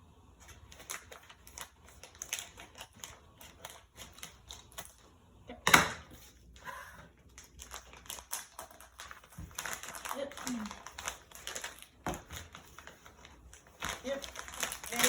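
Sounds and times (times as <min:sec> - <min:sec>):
packaging rustle: 0:00.4 - 0:05.0, 0:07.3 - 0:15.0.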